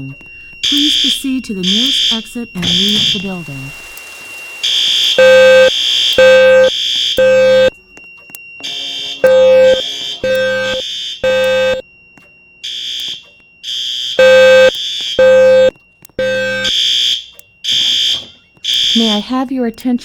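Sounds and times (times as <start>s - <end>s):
higher alarm tone: 0.0s - 19.7s
fire alarm horn-tone pulses: 0.0s - 20.0s.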